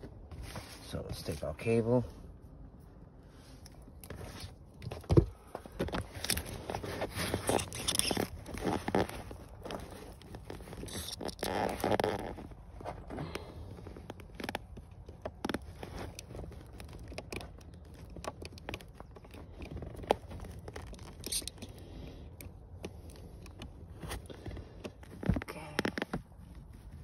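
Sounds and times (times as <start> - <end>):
rustles of carpet and wiring: 0.0 - 27.0.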